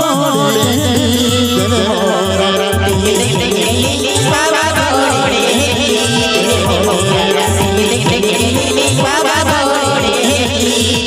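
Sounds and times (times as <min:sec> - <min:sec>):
driving drum beat: 0:00.0 - 0:11.0
men singing through microphones: 0:00.0 - 0:11.0
rattling percussion: 0:00.0 - 0:11.0.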